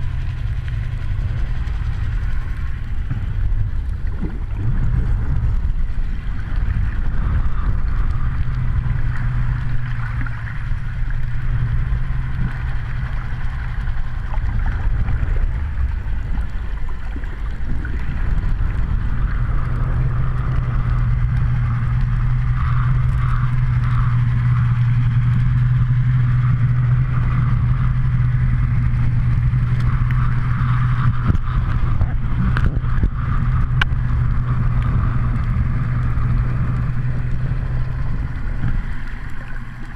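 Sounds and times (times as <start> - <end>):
motorboat engine underwater: 0.0 - 39.9.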